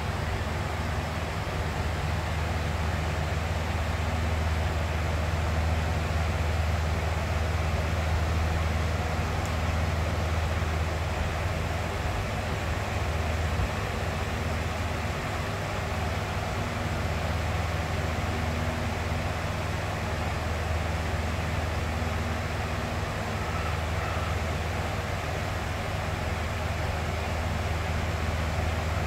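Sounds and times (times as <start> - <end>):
box fan running: 0.0 - 29.0.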